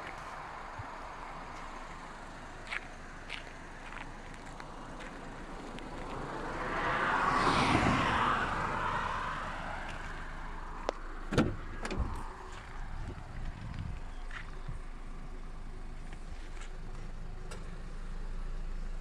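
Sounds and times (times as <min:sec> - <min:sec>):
road vehicle passing by: 0:00.0 - 0:19.0.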